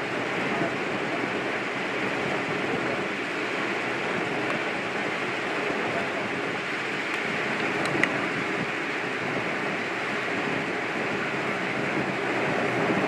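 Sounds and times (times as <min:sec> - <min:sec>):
outdoor ambience rushing: 0:00.0 - 0:13.0.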